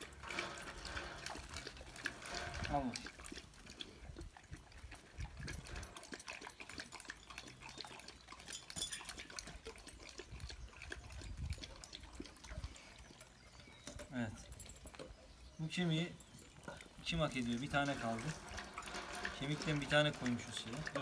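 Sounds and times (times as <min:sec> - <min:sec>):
dogs lapping and chewing: 0:00.0 - 0:21.0.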